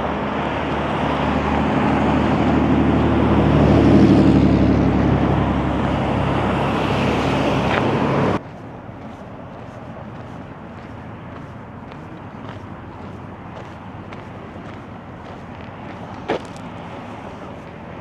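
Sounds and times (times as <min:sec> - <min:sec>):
motor vehicle passing: 0:00.4 - 0:18.0.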